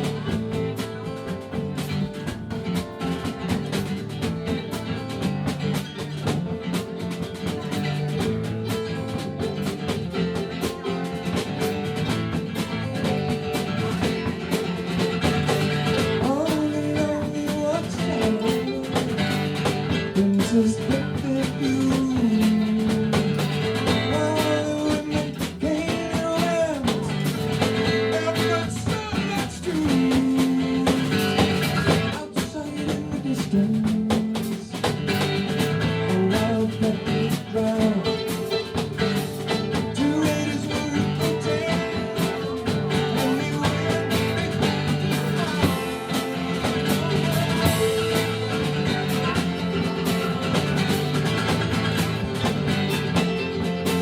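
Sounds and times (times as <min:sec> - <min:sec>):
bass: 0:00.0 - 0:54.0
drum kit beat: 0:00.0 - 0:54.0.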